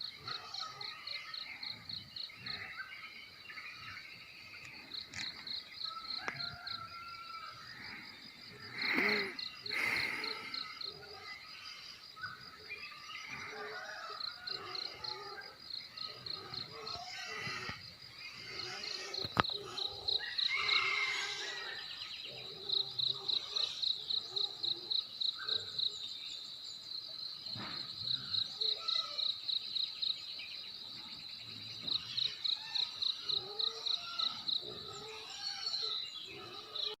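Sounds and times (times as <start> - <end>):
cricket chirping: 0.0 - 37.0.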